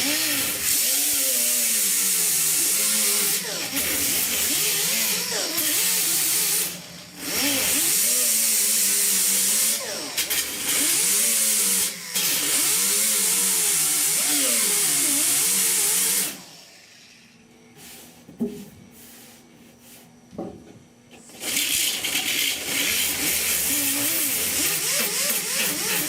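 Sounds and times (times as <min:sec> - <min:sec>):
grinder grinding steel: 0:00.0 - 0:17.0, 0:21.3 - 0:26.0.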